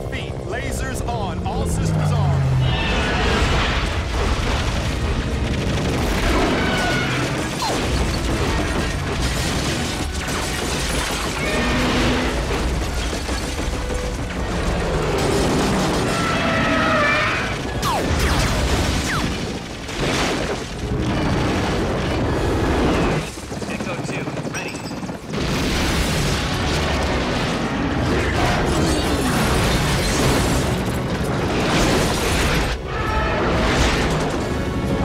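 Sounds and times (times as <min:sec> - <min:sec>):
helicopter rotors: 0:00.0 - 0:18.3, 0:20.6 - 0:35.0
rapid machine-gun fire: 0:03.6 - 0:16.6, 0:17.7 - 0:32.8.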